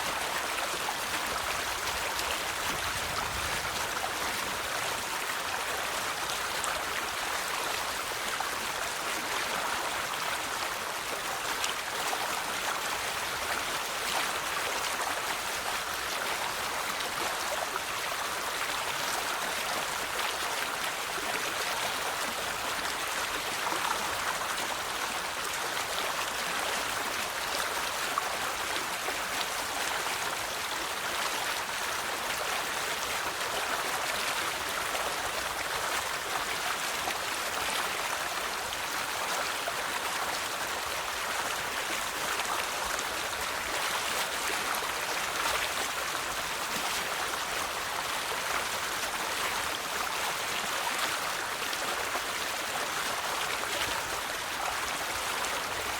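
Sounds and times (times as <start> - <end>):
river water flowing over stones: 0.0 - 55.9.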